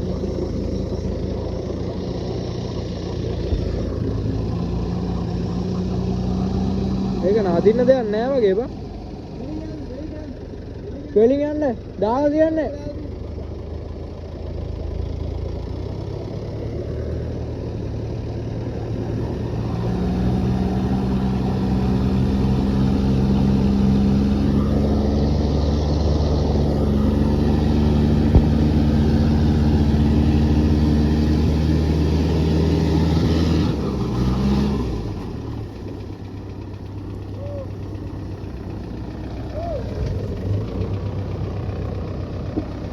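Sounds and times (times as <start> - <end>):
vehicle engine under load: 0.0 - 42.9.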